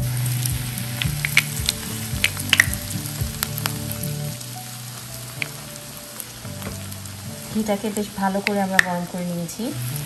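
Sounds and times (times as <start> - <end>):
bread sizzling in a pan: 0.0 - 10.0
sharp pops and crackles: 0.0 - 10.0.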